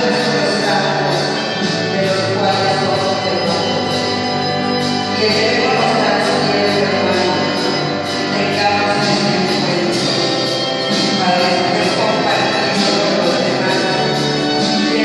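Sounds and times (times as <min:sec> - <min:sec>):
worship music singing: 0:00.0 - 0:15.0.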